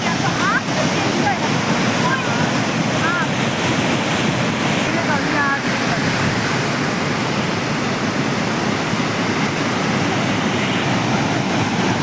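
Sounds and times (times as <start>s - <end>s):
water rushing and falling: 0.0s - 12.0s.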